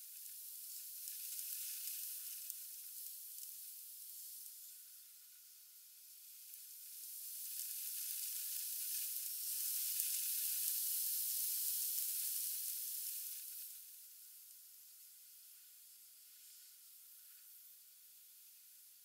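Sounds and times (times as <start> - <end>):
sped up rain hiss: 0.0 - 19.0.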